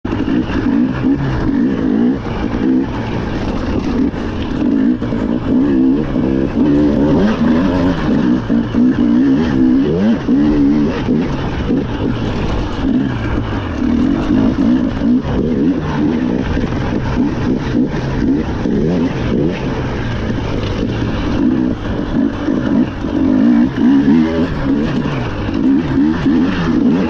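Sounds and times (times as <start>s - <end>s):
rally car engine revving: 0.1s - 27.0s.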